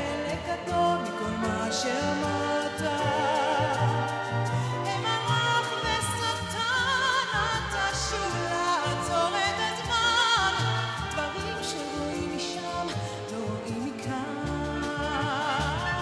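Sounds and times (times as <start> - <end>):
symphony orchestra with strings: 0.0 - 16.0
woman singing with vibrato: 0.0 - 16.0.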